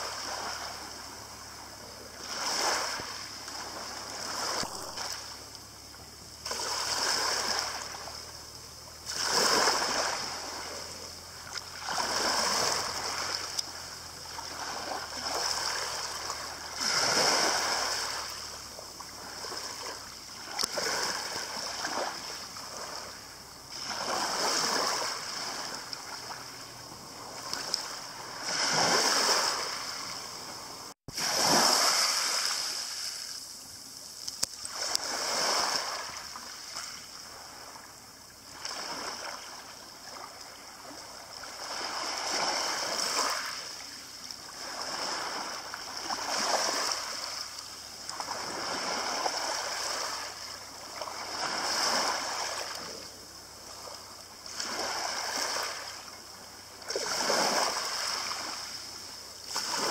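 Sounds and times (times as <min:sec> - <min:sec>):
waves breaking on pebble beach: 0:00.0 - 0:37.8, 0:38.4 - 0:59.9.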